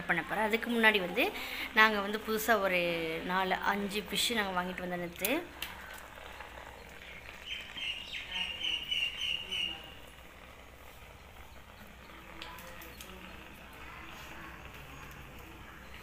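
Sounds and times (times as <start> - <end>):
low steady background: 0.0 - 16.0.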